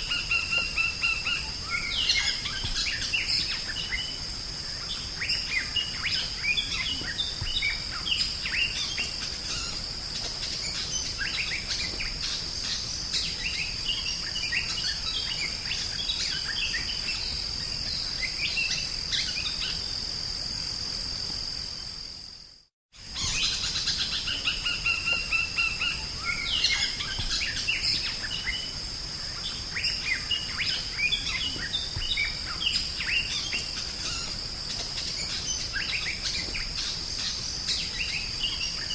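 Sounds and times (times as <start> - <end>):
steady high-pitched whine: 0.0 - 38.9.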